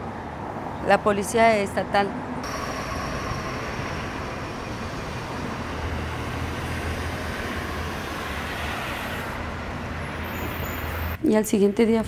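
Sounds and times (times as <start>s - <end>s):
bus moving: 0.0s - 12.0s
city road traffic: 0.0s - 12.0s.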